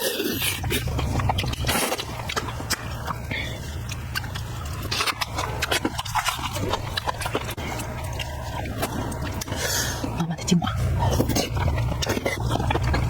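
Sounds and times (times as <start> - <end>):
person chewing with mouth smacks: 0.0 - 10.2, 10.8 - 13.0
low steady hum: 0.0 - 13.0.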